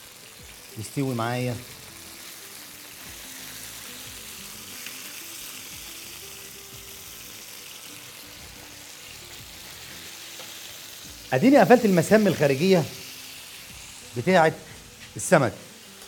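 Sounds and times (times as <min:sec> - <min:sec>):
fish sizzling in grill pan: 0:00.0 - 0:16.0
soft background music: 0:00.0 - 0:16.0.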